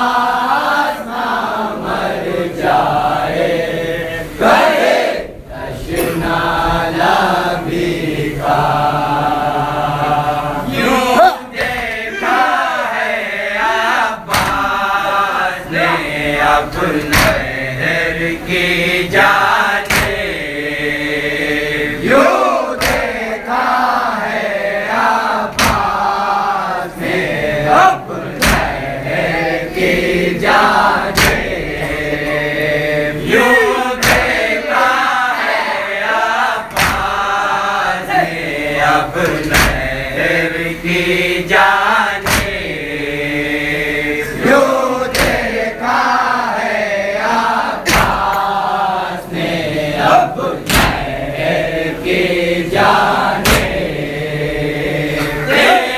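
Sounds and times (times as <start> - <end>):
lead reciter chanting: 0.0 - 55.9
men chanting in unison: 0.0 - 55.9.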